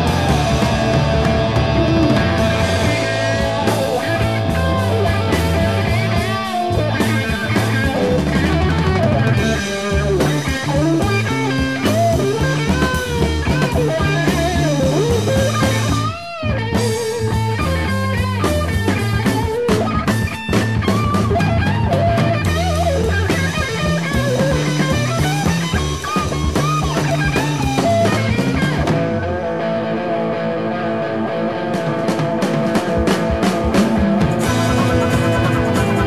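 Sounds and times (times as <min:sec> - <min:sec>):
progressive rock band playing: 0:00.0 - 0:36.0.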